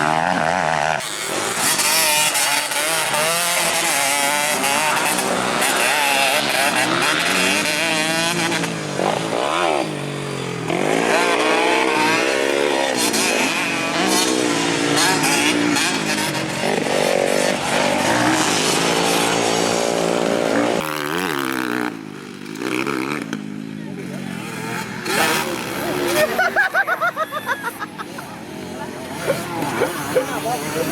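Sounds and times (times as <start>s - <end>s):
dirt bikes revving: 0.0s - 30.9s.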